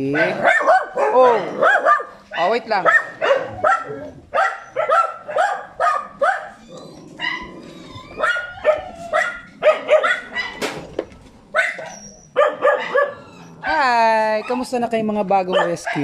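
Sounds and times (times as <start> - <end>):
dogs barking: 0.0 - 10.9, 11.5 - 14.8, 15.4 - 16.0.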